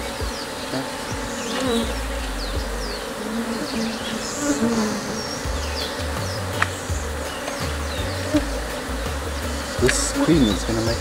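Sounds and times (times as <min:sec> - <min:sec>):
bees humming: 0:00.0 - 0:11.0
single bee buzzing past: 0:00.1 - 0:10.6.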